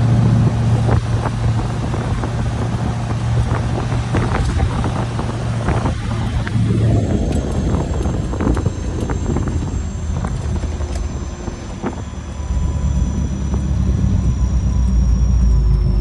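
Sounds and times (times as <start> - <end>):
car engine and road rumble: 0.0 - 16.0
wind noise: 0.0 - 16.0.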